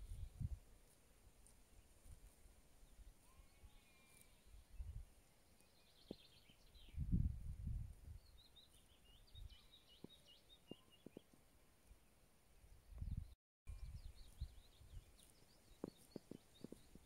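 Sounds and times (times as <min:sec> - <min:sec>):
faint birdsong twittering: 0:00.0 - 0:17.0.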